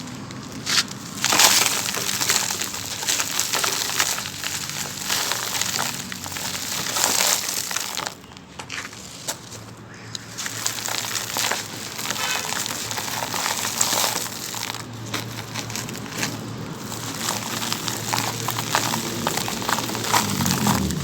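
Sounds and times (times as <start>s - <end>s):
chunks crunching in water: 0.0s - 21.0s.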